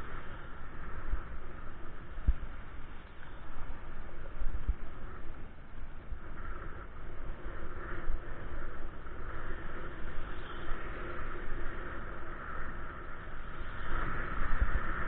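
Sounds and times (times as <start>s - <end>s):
faint steady hum: 0.0s - 15.0s
wind and road noise: 0.0s - 15.0s.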